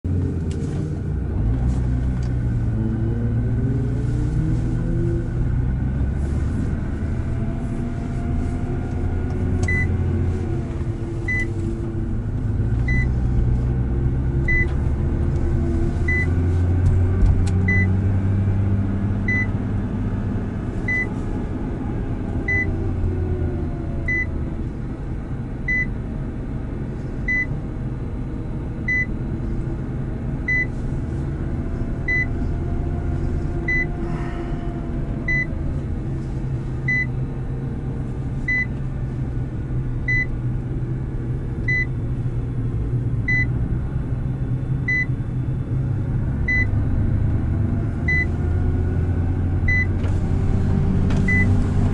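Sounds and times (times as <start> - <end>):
car engine at low revs: 0.0 - 51.9.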